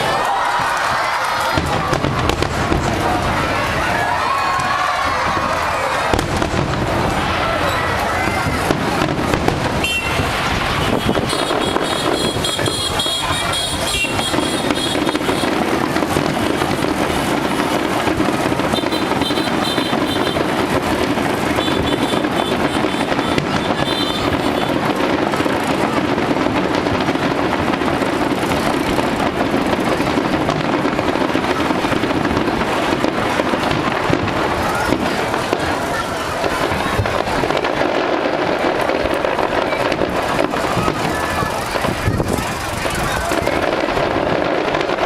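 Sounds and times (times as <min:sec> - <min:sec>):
fireworks crackling and banging: 0:00.0 - 0:45.0.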